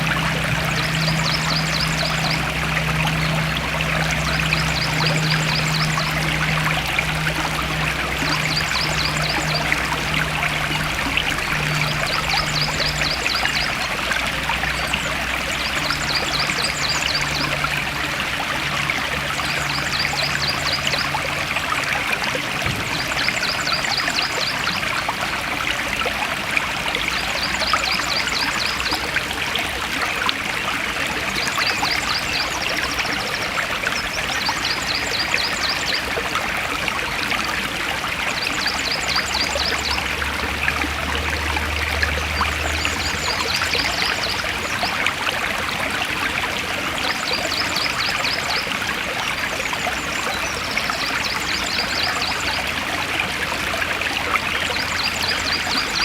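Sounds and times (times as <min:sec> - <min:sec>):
stream rushing and trickling: 0:00.0 - 0:56.0.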